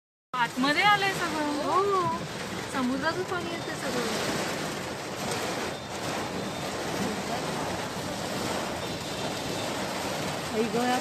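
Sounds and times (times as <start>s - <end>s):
heavy rain: 0.4s - 11.0s
sea waves surging: 1.0s - 11.0s.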